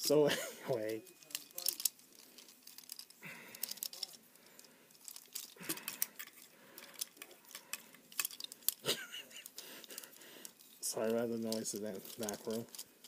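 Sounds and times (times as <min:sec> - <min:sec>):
plastic toy parts clicking: 0:00.8 - 0:08.8, 0:09.4 - 0:12.9.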